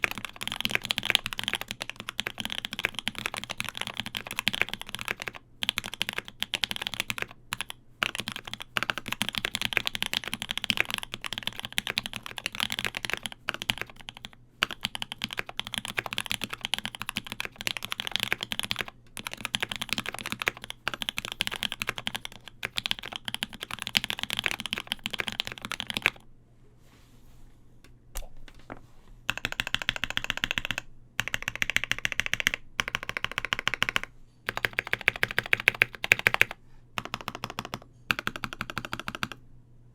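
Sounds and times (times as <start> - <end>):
mechanical keyboard typing: 0.0 - 26.2, 29.3 - 39.4.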